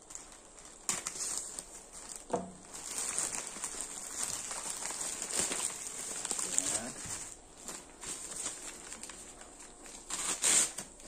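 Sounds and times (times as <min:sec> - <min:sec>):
plastic mailer crinkling: 0:00.0 - 0:11.0.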